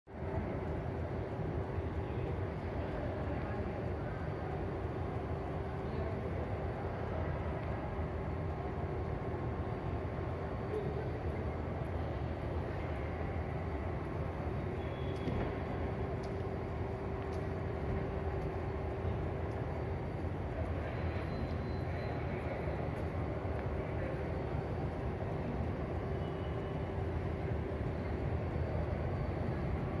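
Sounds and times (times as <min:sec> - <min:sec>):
faint constant hum: 0:00.1 - 0:30.0
station hall low rumble: 0:00.1 - 0:30.0.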